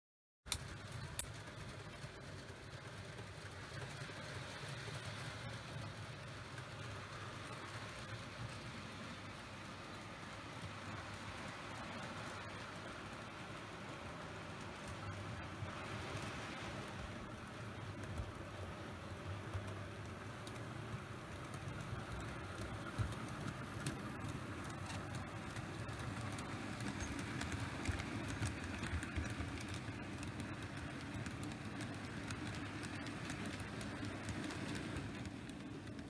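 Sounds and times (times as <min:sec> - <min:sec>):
model train wheels on rails: 0:00.5 - 0:36.0.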